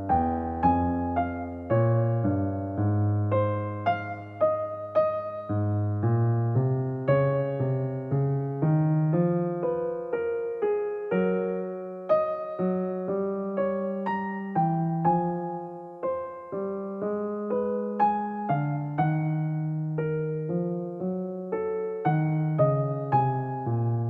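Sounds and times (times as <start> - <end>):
soft solo piano: 0.0 - 24.0.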